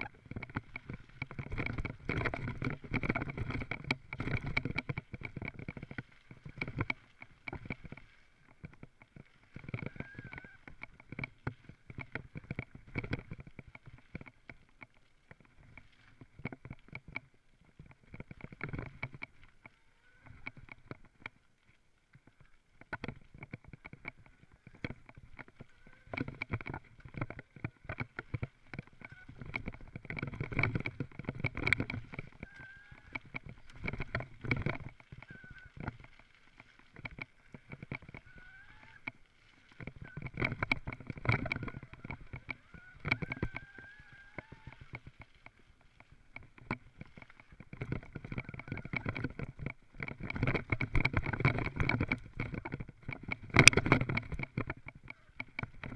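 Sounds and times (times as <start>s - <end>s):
mountain bike rattling over rough trail: 0.0s - 55.9s.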